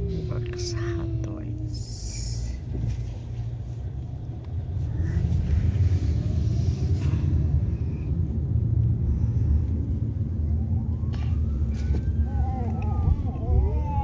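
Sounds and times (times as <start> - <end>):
road and engine rumble inside car: 0.0 - 14.0.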